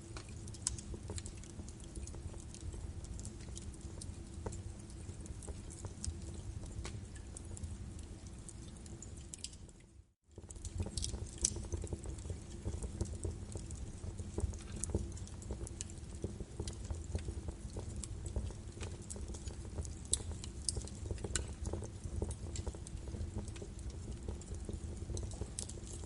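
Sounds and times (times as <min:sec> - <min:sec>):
low fire rumble: 0:00.0 - 0:26.0
logs crackling and popping: 0:00.1 - 0:09.8, 0:10.4 - 0:26.0.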